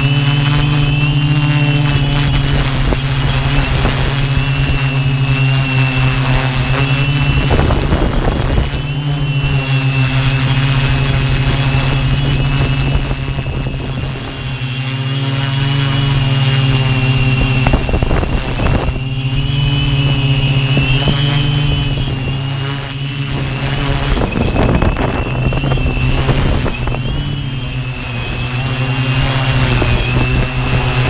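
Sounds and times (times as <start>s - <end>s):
drone motors humming and whining: 0.0s - 31.0s
wind buffeting microphone: 0.0s - 31.0s.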